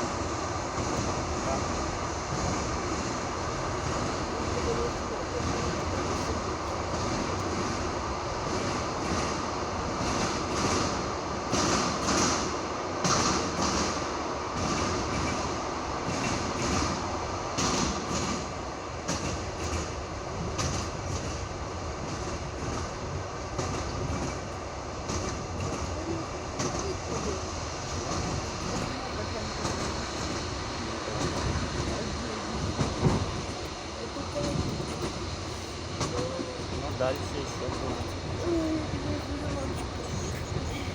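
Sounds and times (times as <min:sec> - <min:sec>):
train rolling rumble: 0:00.0 - 0:40.9
train wheels clicking over rail joints: 0:00.7 - 0:40.9.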